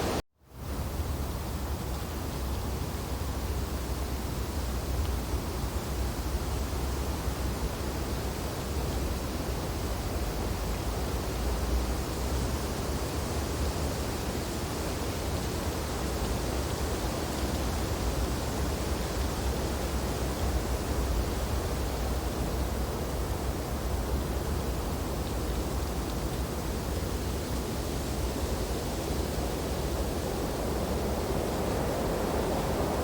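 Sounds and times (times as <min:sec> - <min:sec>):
wind through tree branches: 0:00.0 - 0:33.0.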